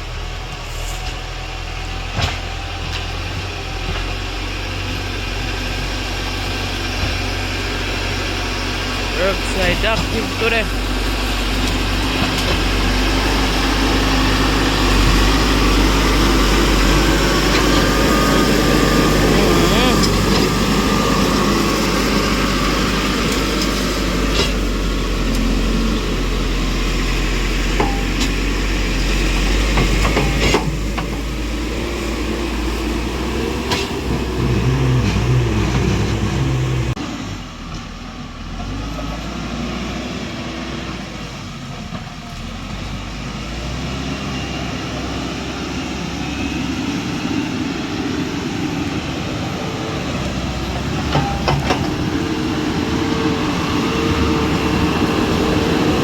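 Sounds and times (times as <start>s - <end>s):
tractor engine running: 0.0s - 39.2s, 40.8s - 56.0s.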